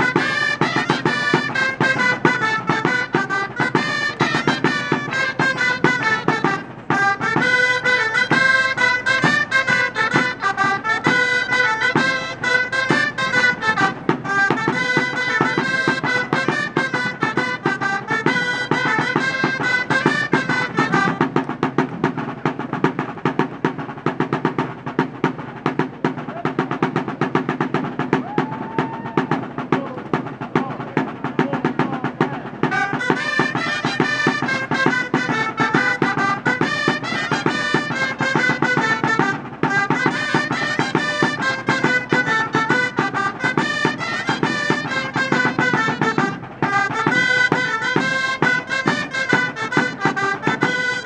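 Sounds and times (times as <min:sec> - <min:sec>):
shawms playing dance tune: 0:00.0 - 0:51.0
steady drum beat: 0:00.0 - 0:51.0.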